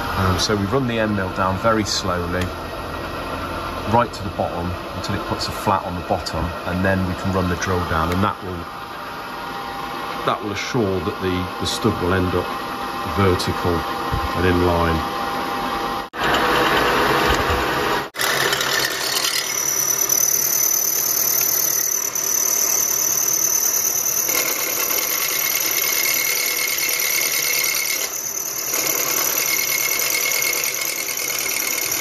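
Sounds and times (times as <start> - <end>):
milling machine whine: 0.0 - 32.0.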